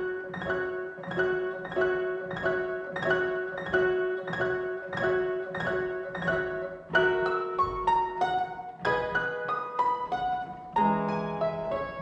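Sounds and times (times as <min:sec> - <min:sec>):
fortepiano waltz: 0:00.0 - 0:12.0.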